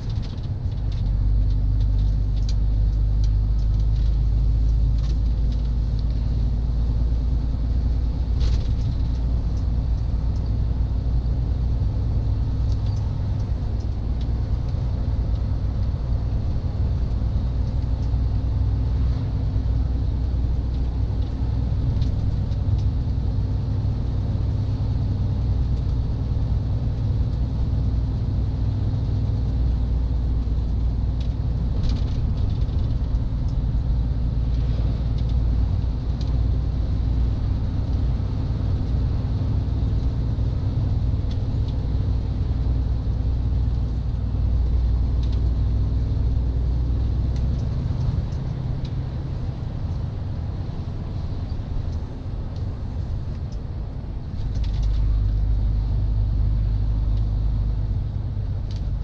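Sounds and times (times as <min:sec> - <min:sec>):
truck engine and tyres rumbling: 0:00.0 - 0:59.0.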